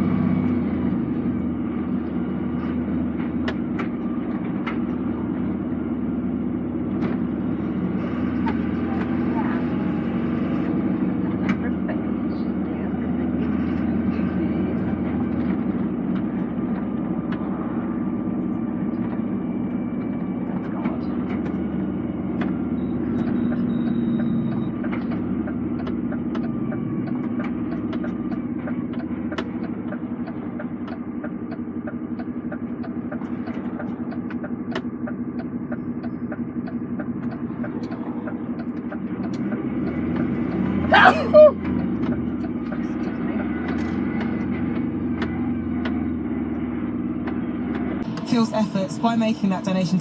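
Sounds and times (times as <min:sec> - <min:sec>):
lorry engine and road noise: 0:00.0 - 0:50.0.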